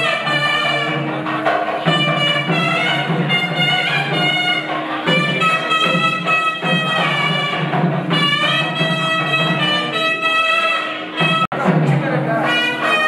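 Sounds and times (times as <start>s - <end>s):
steady drum beat: 0.0s - 13.0s
wind instrument melody: 0.0s - 13.0s.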